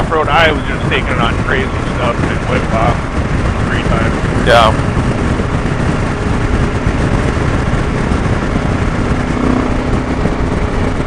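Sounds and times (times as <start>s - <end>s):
motorcycle engine running: 0.0s - 11.0s
road noise: 0.0s - 11.0s
wind rush on microphone: 0.0s - 11.0s.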